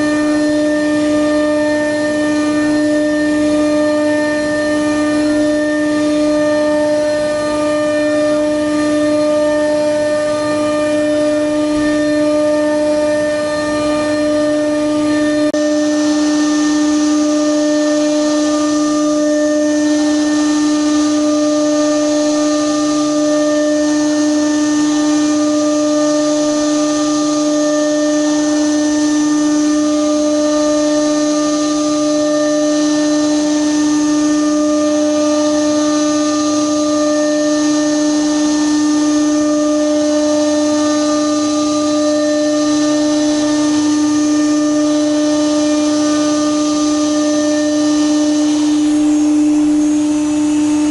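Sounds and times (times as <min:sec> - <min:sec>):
metal lathe whine: 0:00.0 - 0:50.9.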